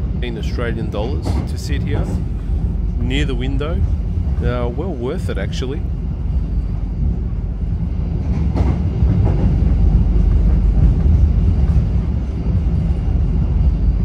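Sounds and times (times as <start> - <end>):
passenger train rumble: 0.0 - 14.0.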